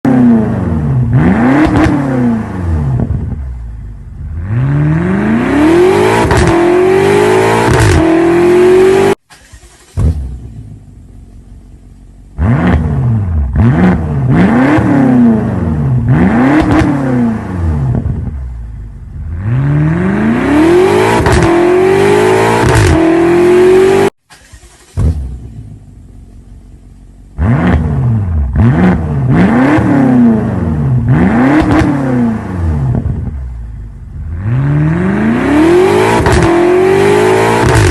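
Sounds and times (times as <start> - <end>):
car engine revving: 0.0 - 10.9, 12.2 - 25.9, 27.2 - 37.9.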